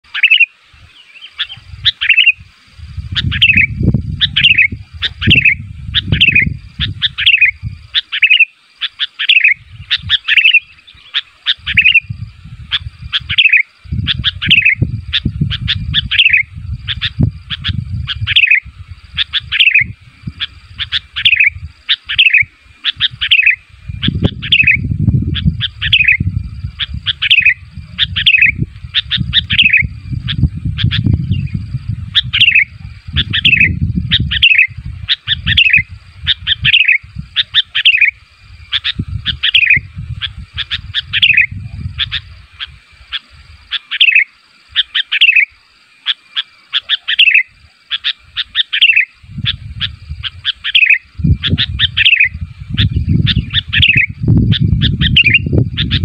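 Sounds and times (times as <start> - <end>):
bulbul calling: 0.0 - 56.0.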